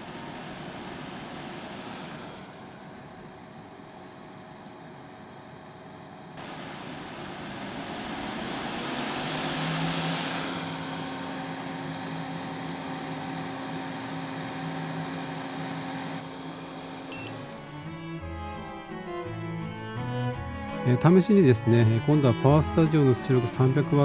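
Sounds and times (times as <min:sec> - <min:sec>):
air purifier fan blowing: 0:00.0 - 0:24.0.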